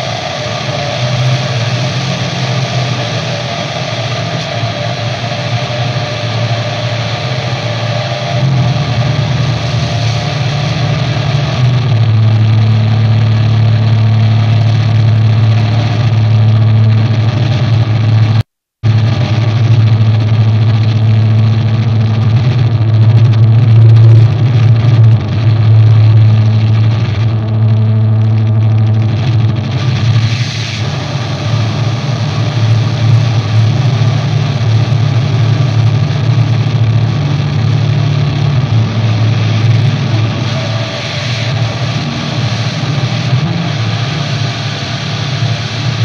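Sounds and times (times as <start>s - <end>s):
distorted electric guitar drone: 0.0s - 46.0s
low amplifier hum: 0.0s - 46.0s.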